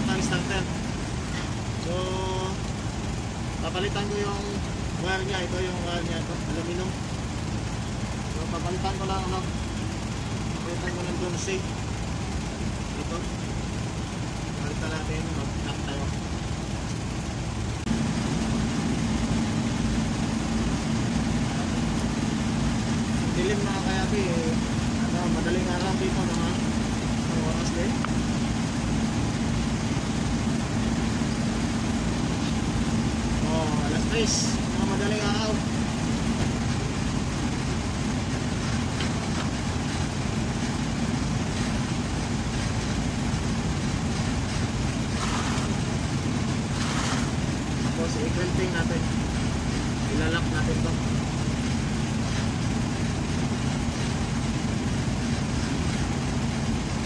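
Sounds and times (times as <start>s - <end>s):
engine rumbling: 0.0s - 57.0s
steady hum: 0.0s - 57.0s.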